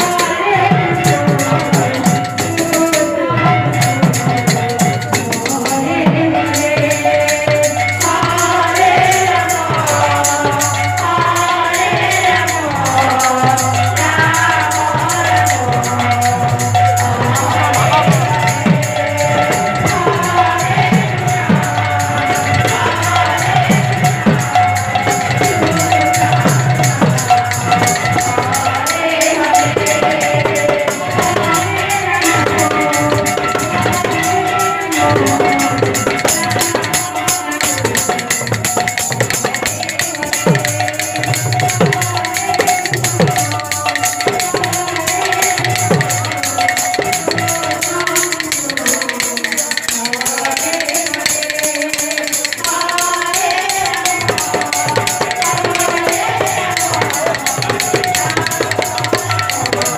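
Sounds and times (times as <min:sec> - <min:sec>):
metallic jingling percussion: 0:00.0 - 0:59.9.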